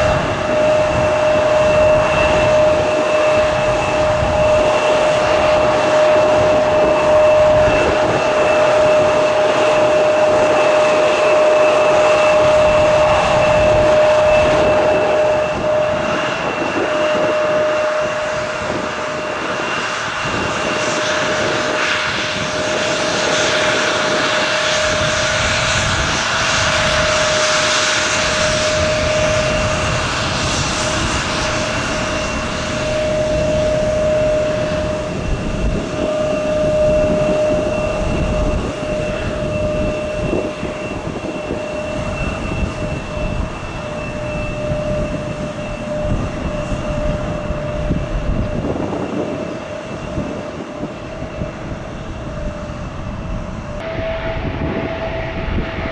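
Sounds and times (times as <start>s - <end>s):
aircraft engines whining: 0.0s - 55.9s
wind buffeting microphone: 0.0s - 55.9s.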